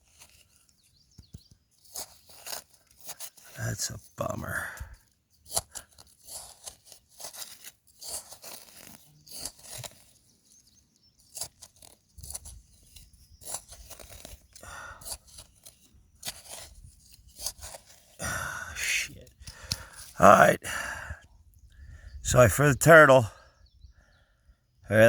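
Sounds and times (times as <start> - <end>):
hand digging through dry soil: 0.0 - 20.6.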